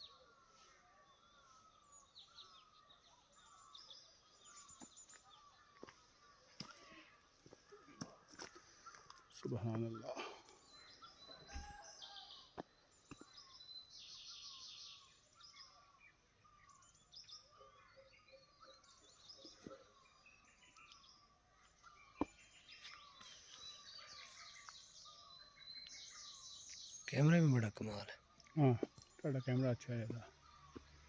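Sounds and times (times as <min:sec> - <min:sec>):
small birds chirping and trilling: 0:00.0 - 0:31.0.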